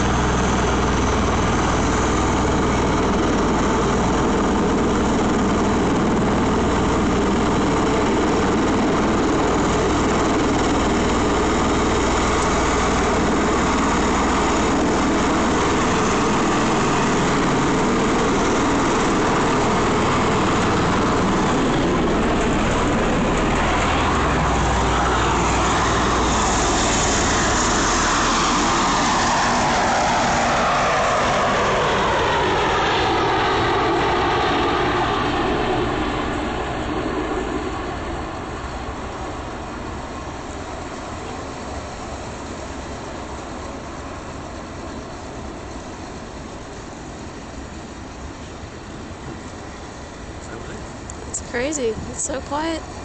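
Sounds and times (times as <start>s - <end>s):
aircraft engines and rotors running: 0.0s - 53.0s.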